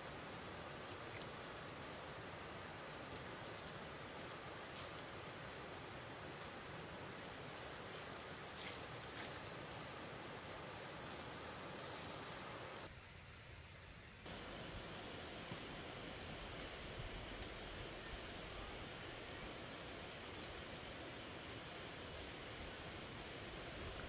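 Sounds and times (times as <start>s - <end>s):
insects chirping: 0.0s - 24.0s
low outdoor hiss: 0.0s - 24.0s.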